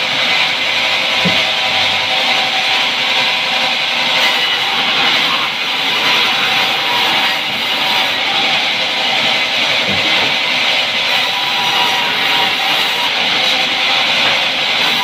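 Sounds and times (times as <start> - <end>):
band saw cutting log: 0.0 - 15.0.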